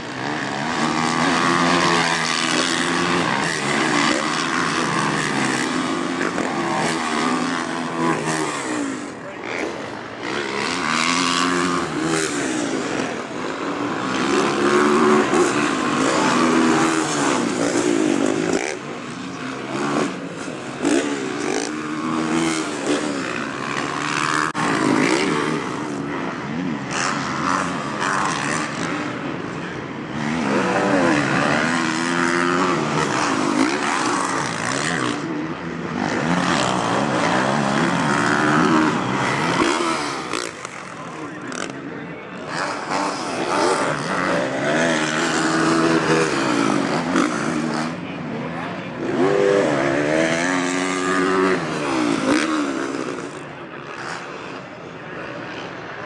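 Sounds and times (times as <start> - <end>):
motocross bikes revving past: 0.0 - 56.0.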